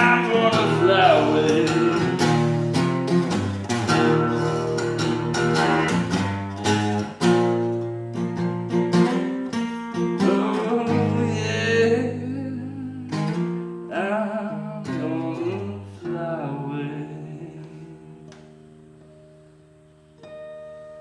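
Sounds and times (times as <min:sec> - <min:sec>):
acoustic guitar strummed and picked: 0:00.0 - 0:21.0.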